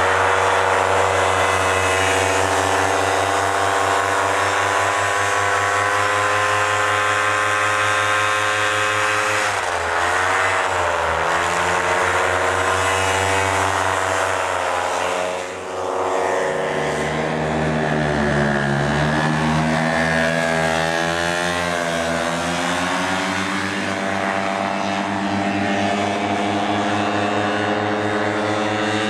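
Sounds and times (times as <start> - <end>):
paramotor engine droning: 0.0 - 29.0.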